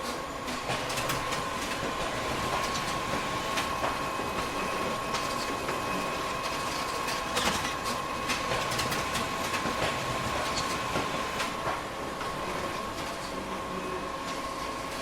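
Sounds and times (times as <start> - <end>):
photocopier whirring: 0.2 - 15.0.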